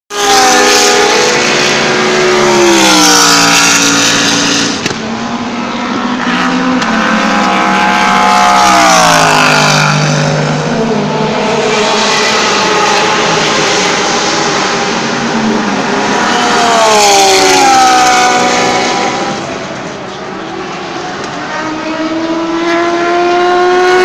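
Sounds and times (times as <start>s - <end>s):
race car engines at high revs: 0.1s - 24.0s.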